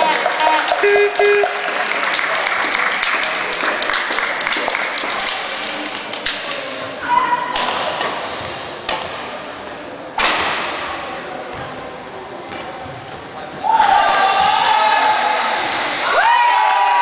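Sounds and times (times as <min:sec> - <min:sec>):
voices in hall: 0:00.0 - 0:17.0.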